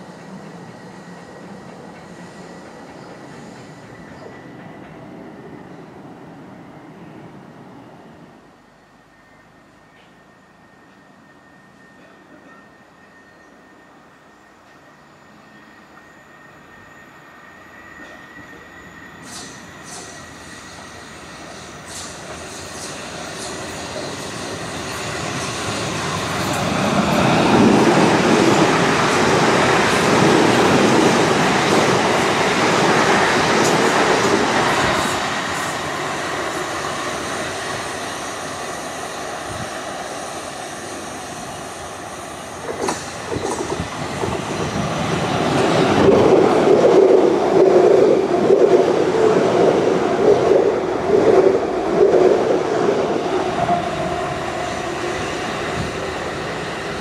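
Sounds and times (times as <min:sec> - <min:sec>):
electric train rumbling on track: 0:00.0 - 0:57.0.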